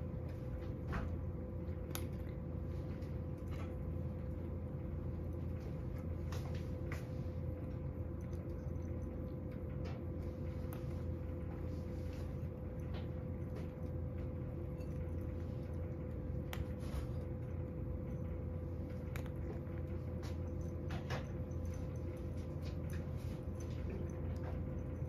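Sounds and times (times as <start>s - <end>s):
low background hum: 0.0s - 25.0s
cat crunching dry kibble: 1.3s - 25.0s.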